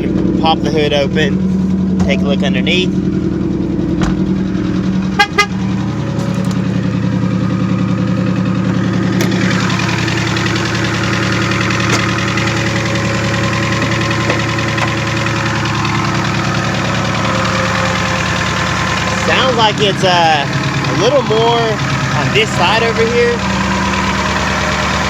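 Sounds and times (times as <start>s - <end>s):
engine idling with light tapping: 0.0s - 25.0s.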